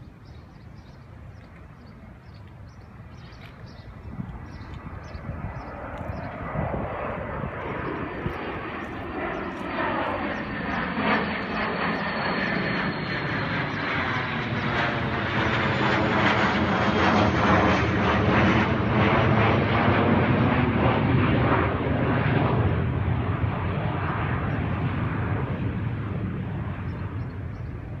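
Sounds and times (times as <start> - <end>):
airplane flying over: 0.0 - 28.0.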